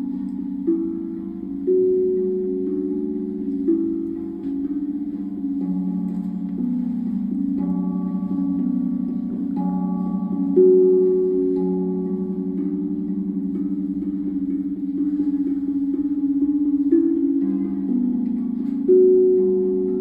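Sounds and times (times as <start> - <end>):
steel tongue drum notes: 0.0 - 20.0.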